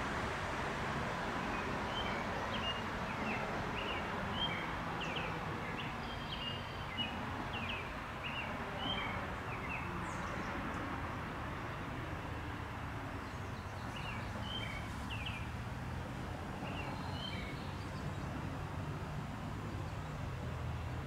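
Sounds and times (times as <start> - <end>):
low outdoor background noise: 0.0 - 21.0.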